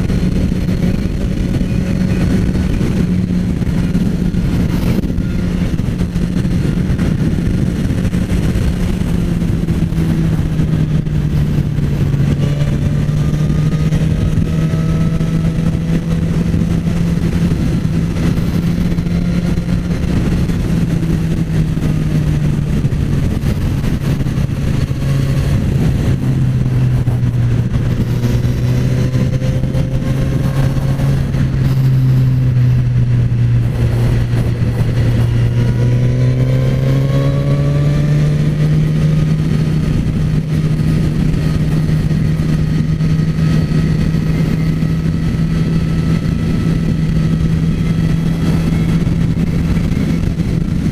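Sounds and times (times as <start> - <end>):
motorcycle engine running: 0.0 - 50.9
wind rush: 0.0 - 50.9.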